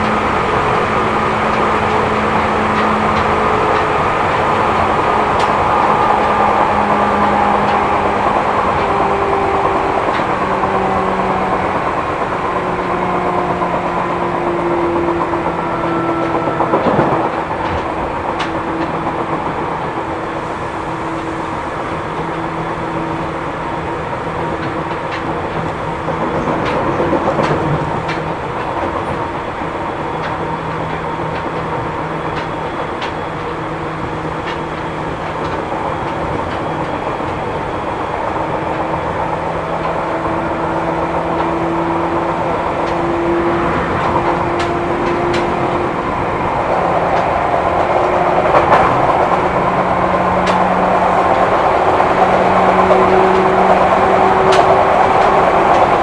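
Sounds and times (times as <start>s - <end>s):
electric train motor tones: 0.0s - 56.0s
train wheels on rail: 0.0s - 56.0s.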